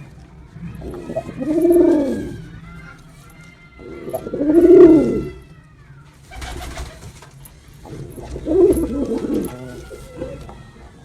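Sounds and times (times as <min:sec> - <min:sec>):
pigeon cooing: 0:00.0 - 0:11.0.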